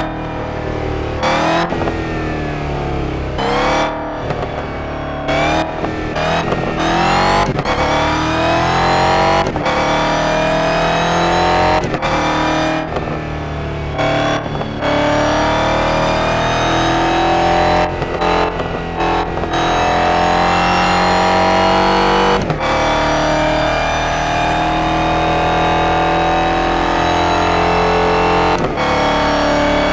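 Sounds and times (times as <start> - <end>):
car engine accelerating hard: 0.0 - 29.9.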